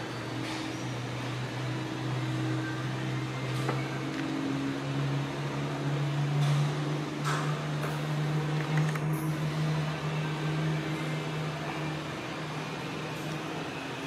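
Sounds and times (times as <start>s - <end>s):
airliner engine drone: 0.0s - 14.0s.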